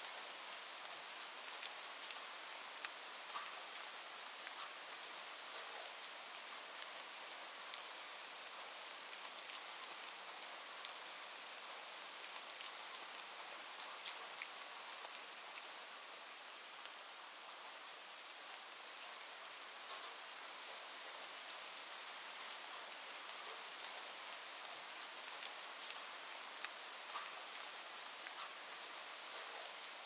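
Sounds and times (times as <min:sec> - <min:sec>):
rain hissing with drop ticks: 0:00.0 - 0:30.0.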